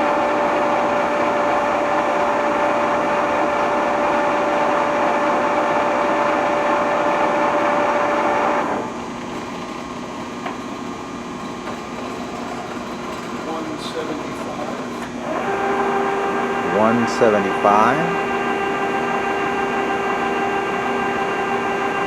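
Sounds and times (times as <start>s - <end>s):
lathe gear whine: 0.0s - 22.0s
machine hum: 0.0s - 22.0s.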